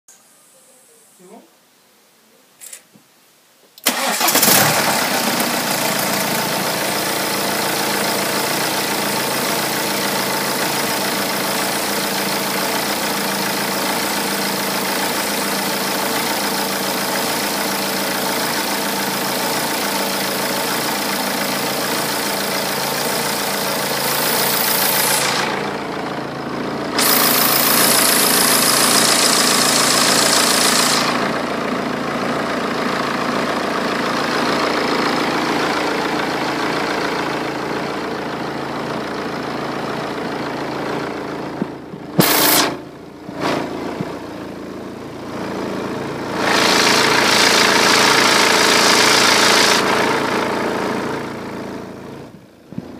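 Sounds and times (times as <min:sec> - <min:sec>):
diesel engine starting and idling: 0:03.8 - 0:52.9.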